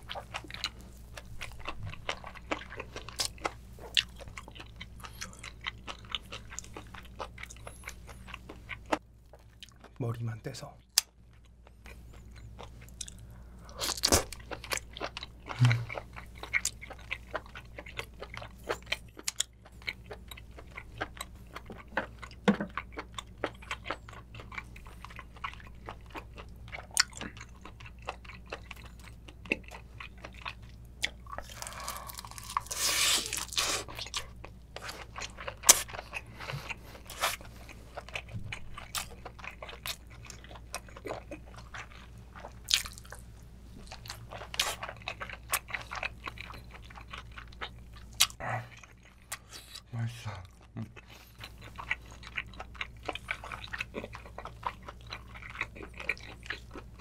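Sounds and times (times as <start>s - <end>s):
chewing and biting: 0.0s - 10.0s, 10.9s - 57.0s.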